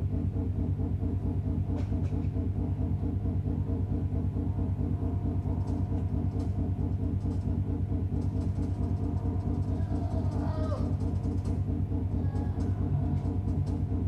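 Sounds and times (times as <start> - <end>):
low throbbing electronic drone: 0.0 - 14.0.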